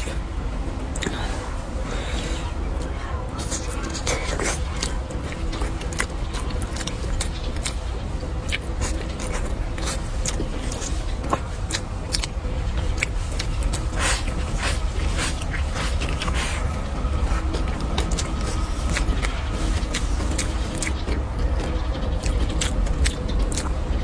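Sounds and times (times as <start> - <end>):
low background rumble: 0.0 - 24.0
chewing: 0.9 - 24.0.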